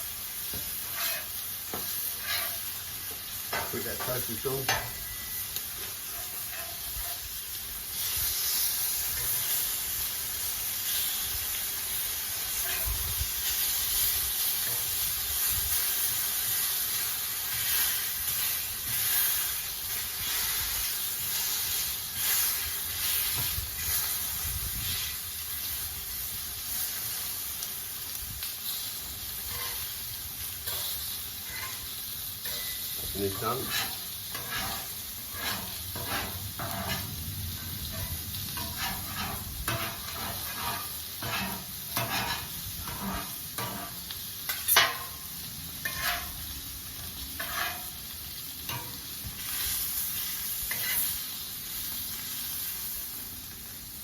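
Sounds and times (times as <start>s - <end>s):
food sizzling on a griddle: 0.0s - 54.0s.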